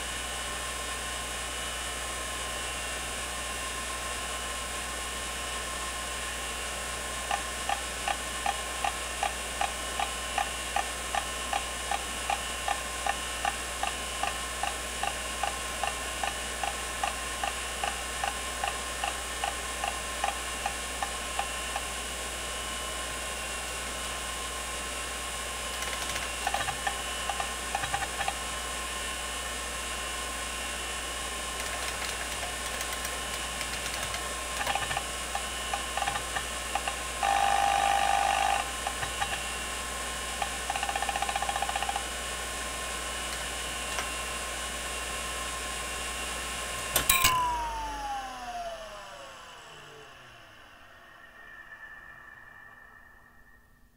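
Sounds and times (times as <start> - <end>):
hard drive spindle hum and whine: 0.0 - 53.9.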